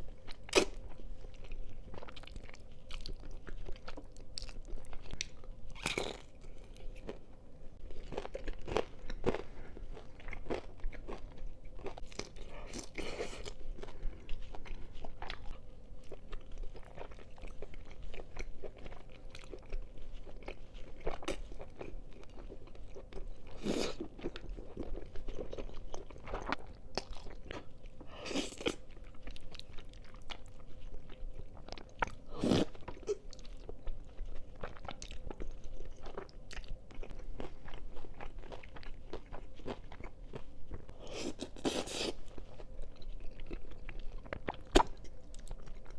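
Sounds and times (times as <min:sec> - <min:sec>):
person chewing and crunching: 0:00.0 - 0:45.9.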